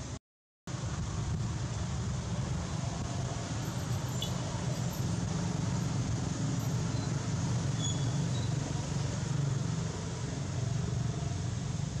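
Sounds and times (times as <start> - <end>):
hiss: 0.0 - 12.0.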